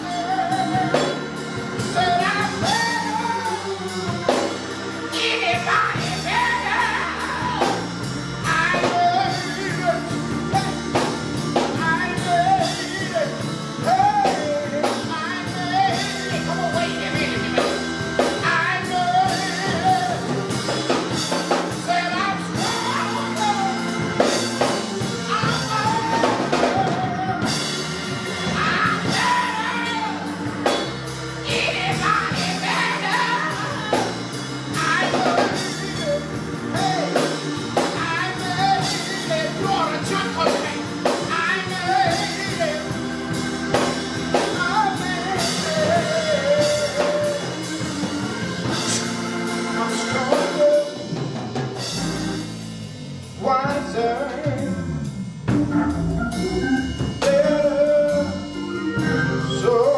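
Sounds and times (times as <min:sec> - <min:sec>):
man singing into a microphone: 0:00.0 - 0:27.7, 0:28.5 - 0:30.8, 0:31.4 - 0:43.1, 0:43.7 - 0:47.9, 0:49.8 - 0:51.2, 0:53.4 - 0:54.9, 0:56.4 - 0:59.9
music with drums: 0:00.0 - 0:59.9.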